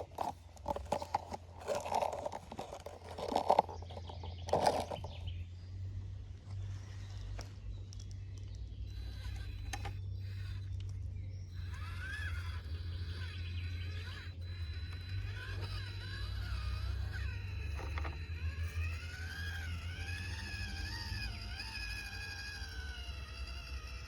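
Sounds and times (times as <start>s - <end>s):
toy car motor whining: 0.0s - 5.3s, 6.6s - 24.0s
steady low hum: 0.0s - 24.0s.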